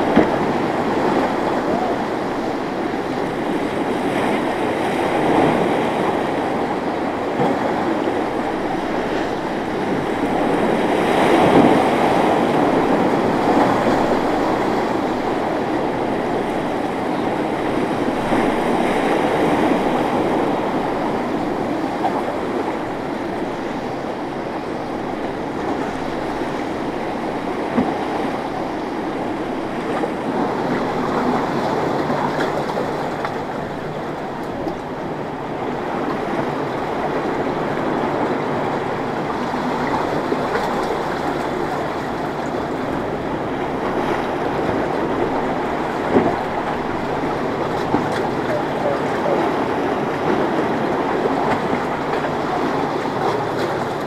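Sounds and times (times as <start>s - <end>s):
outboard motors droning: 0.0s - 54.0s
waves and spray: 0.0s - 54.0s.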